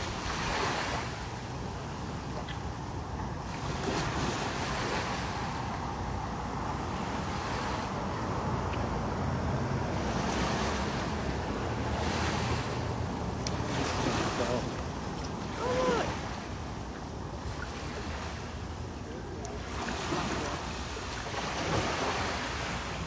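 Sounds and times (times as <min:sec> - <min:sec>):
waves breaking: 0:00.0 - 0:23.0
wind on microphone: 0:00.0 - 0:23.0.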